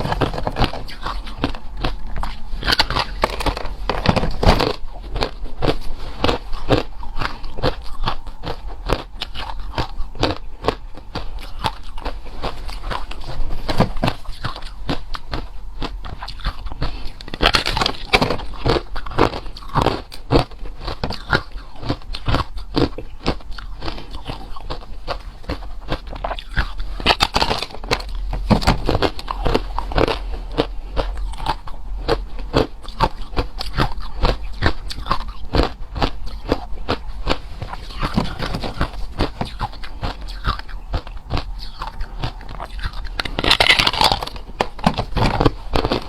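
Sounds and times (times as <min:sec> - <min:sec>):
ice being bitten and chewed: 0:00.0 - 0:46.0.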